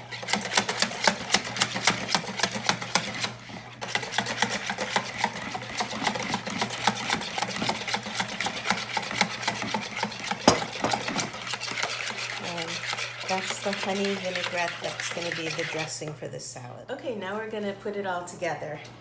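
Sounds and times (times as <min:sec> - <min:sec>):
whisk beating against bowl: 0:00.1 - 0:16.2.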